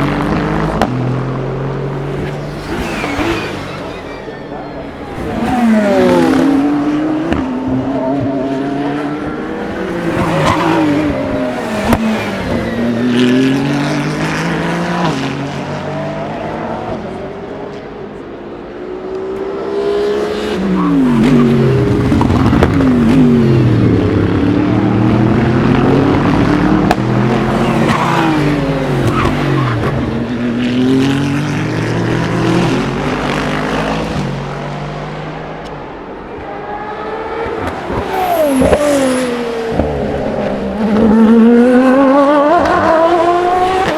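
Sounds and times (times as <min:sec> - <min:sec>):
race cars accelerating: 0:00.0 - 0:43.9
race cars braking and downshifting: 0:00.0 - 0:43.9.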